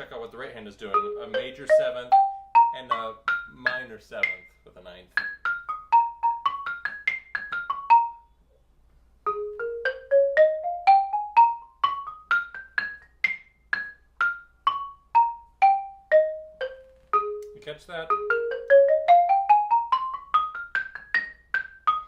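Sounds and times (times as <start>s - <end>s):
xylophone played with mallets: 0.8s - 8.4s, 9.2s - 22.0s.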